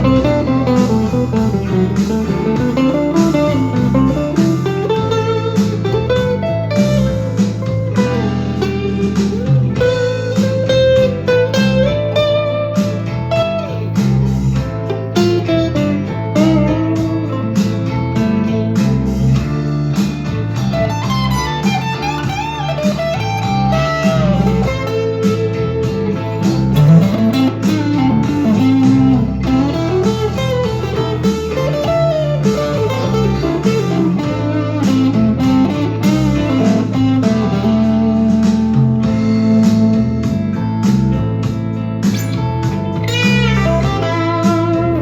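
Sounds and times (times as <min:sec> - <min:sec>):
electric guitar lead with bends: 0:00.0 - 0:45.0
rhythmic backing track: 0:00.0 - 0:45.0.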